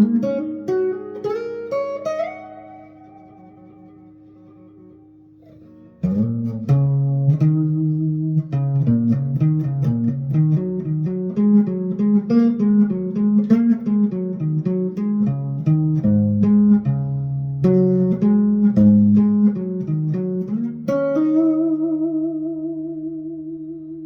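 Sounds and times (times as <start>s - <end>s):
guitar chord ringing: 0.0s - 24.0s
picked guitar notes: 0.0s - 24.0s.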